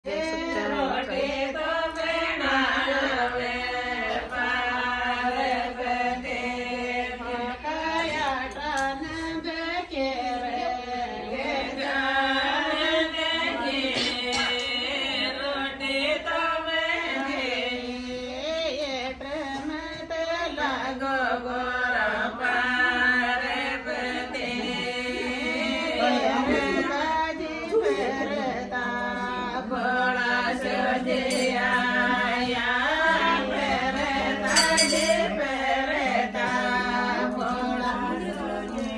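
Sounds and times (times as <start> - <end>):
person chanting a devotional song: 0.0 - 38.9.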